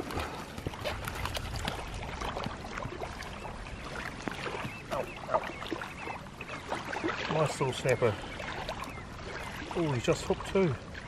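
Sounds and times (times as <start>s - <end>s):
water washing at shore: 0.0s - 11.0s.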